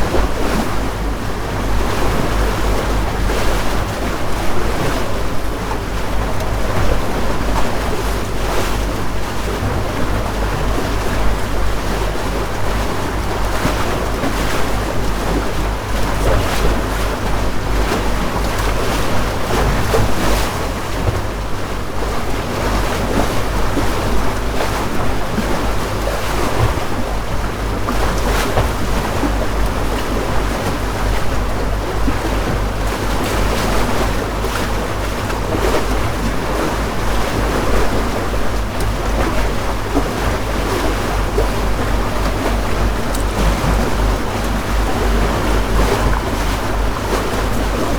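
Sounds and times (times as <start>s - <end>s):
boat motor rumbling: 0.0s - 47.9s
water splashing against hull: 0.0s - 47.9s.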